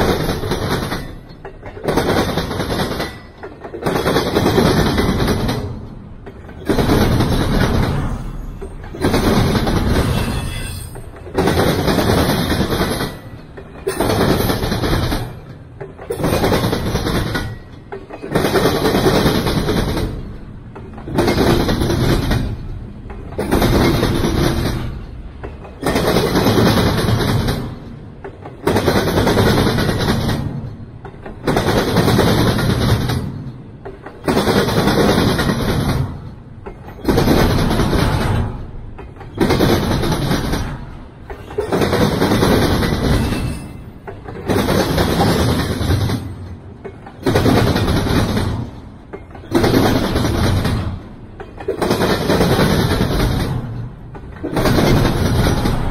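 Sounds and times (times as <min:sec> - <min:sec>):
freight train wheels rumbling: 0:00.0 - 0:55.9
wheels clattering: 0:00.0 - 0:55.9.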